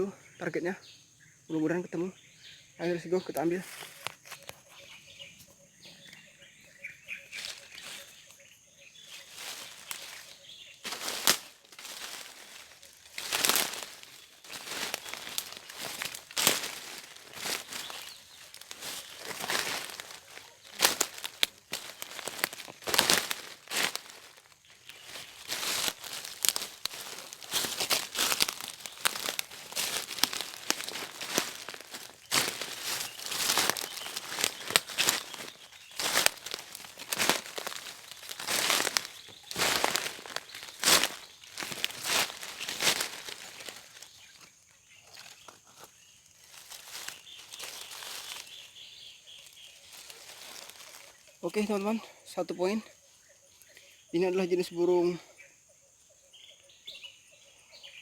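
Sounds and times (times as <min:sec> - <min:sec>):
faint bird chirps: 0:00.0 - 0:58.0
leaves and twigs rustling: 0:02.4 - 0:55.4
footsteps through dry leaves: 0:03.1 - 0:05.0, 0:07.1 - 0:08.3, 0:09.0 - 0:52.7.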